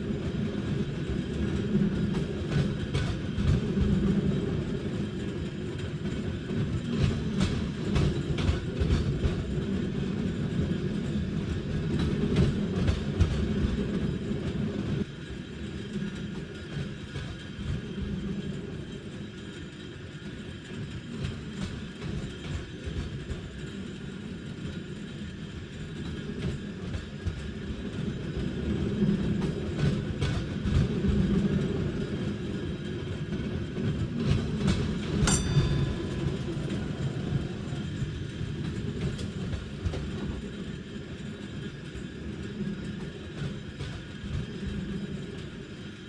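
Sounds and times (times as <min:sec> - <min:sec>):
tram rumbling on rails: 0:00.0 - 0:46.0.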